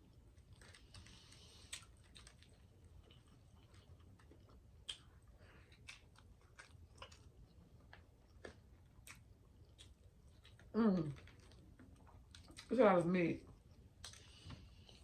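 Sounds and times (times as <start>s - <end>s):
person chewing: 0.1s - 12.7s, 13.6s - 15.0s.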